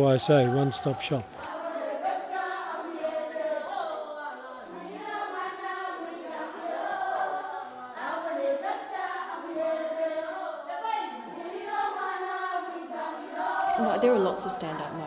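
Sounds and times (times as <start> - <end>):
group singing unaccompanied: 0.0 - 15.0.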